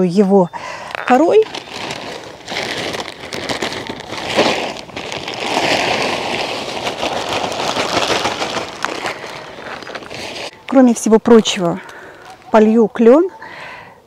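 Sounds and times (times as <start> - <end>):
bark mulch pattering: 1.3 - 12.6.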